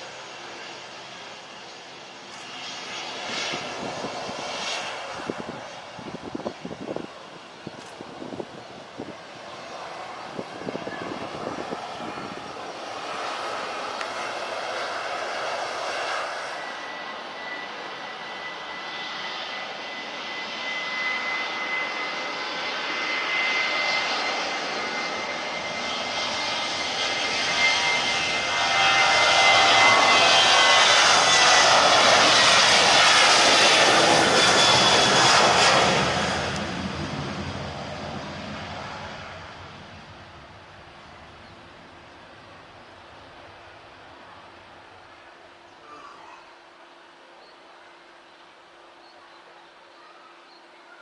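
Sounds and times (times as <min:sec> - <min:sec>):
jet engines passing: 0:00.0 - 0:49.0.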